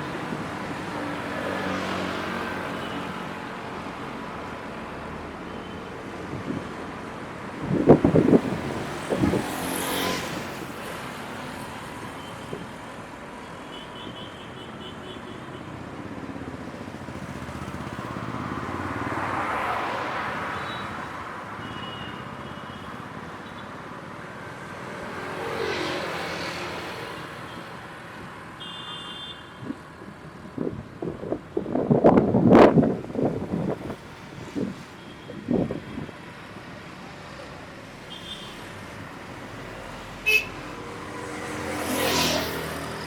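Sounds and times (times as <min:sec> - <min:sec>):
vehicles passing on a highway: 0:00.0 - 0:43.0.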